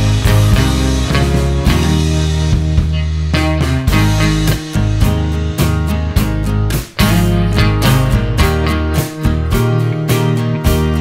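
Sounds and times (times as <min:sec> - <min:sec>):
guitar music with bass: 0:00.0 - 0:11.0.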